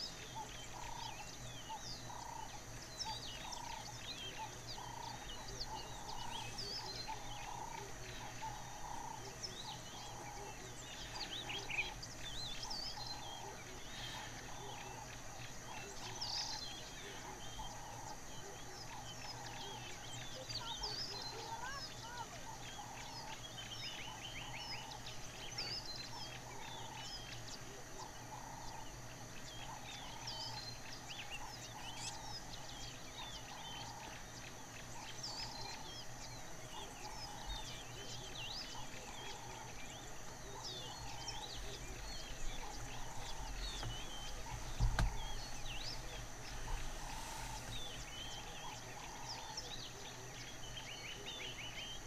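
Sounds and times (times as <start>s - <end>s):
birds chirping and trilling: 0.0s - 52.0s
low bird call: 0.0s - 52.0s.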